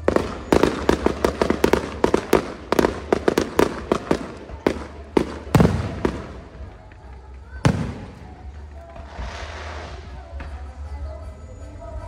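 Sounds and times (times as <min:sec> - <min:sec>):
fireworks bursting: 0:00.0 - 0:10.8.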